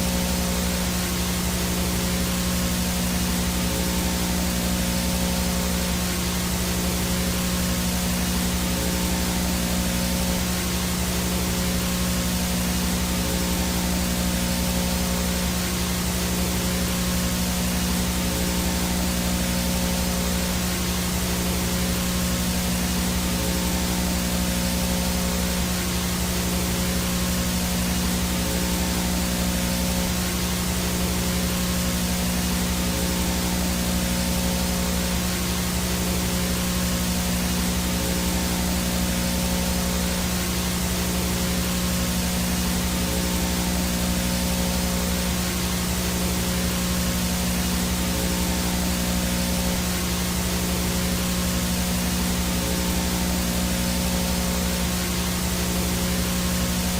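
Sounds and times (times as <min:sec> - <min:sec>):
low electrical hum: 0:00.0 - 0:56.9
tape static hiss: 0:00.0 - 0:56.9.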